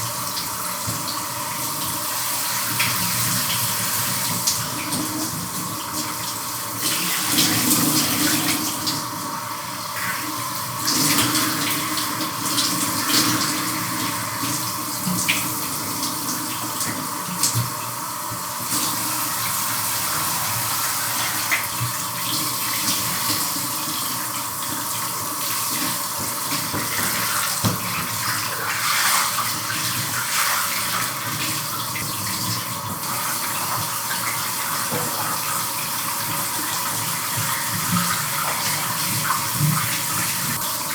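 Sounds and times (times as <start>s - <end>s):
shower running: 0.0s - 40.9s.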